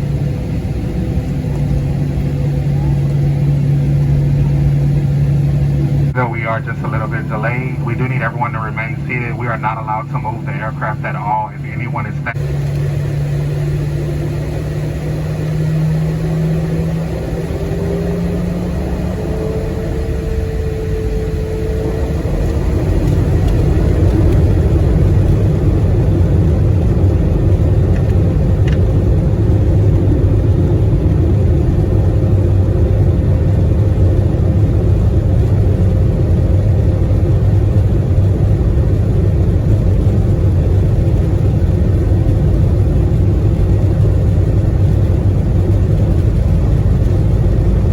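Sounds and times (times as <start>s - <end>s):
jet engines whining and rumbling: 0.0s - 47.9s.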